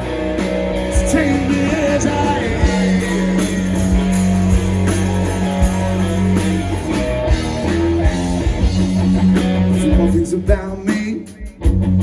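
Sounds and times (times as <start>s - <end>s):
bass guitar: 0.0s - 12.0s
electric guitars: 0.0s - 12.0s
steady drum beat: 0.0s - 12.0s.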